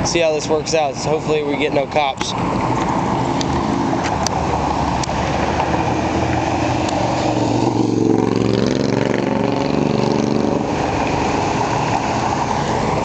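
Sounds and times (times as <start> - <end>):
engine running at low revs: 2.3 - 13.0.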